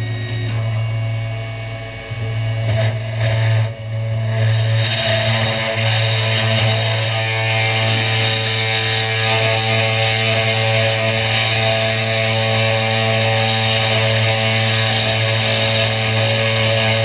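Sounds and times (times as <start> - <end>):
spindle motor whine: 0.0 - 17.0.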